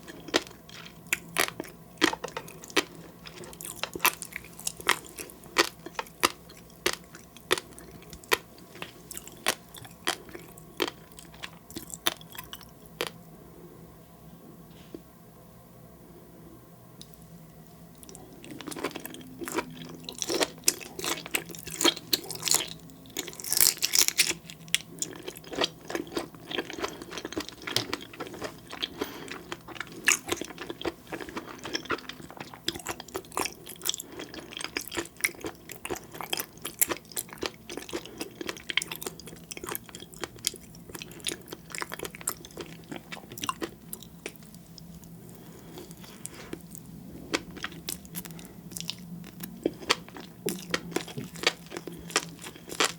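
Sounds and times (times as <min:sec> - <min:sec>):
crunchy chewing: 0:00.0 - 0:13.2, 0:17.9 - 0:52.9.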